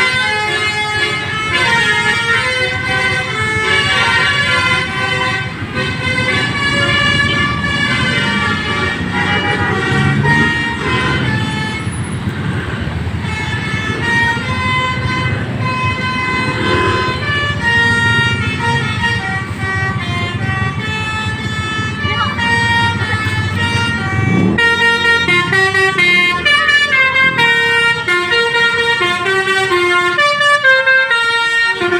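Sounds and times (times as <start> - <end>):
air horns playing a tune: 0.0 - 12.3, 12.9 - 31.9
low traffic rumble: 0.0 - 31.9.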